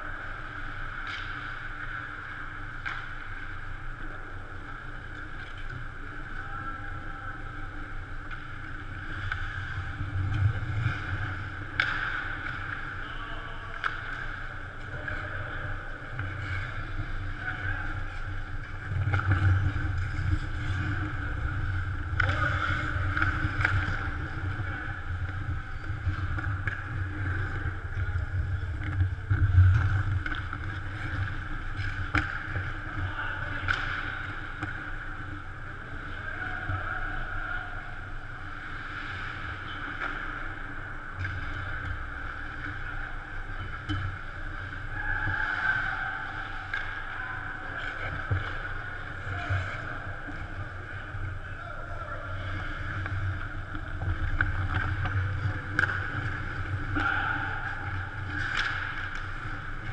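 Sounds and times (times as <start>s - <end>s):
arena hum and rumble: 0.0s - 59.9s
hockey sticks and puck clacking: 0.0s - 59.9s.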